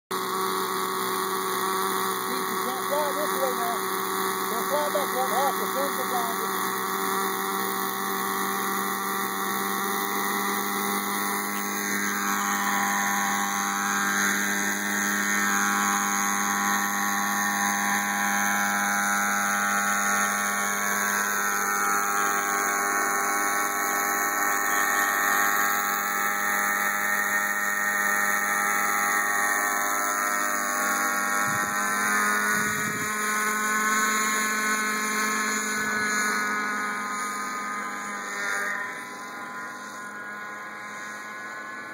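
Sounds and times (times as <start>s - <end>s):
model helicopter engine buzzing: 0.1s - 41.9s
rotor blades whirring: 0.1s - 41.9s.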